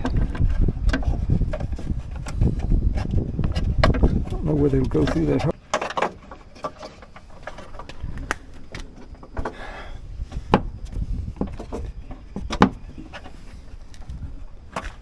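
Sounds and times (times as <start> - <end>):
scraping rustle: 0.0 - 15.0.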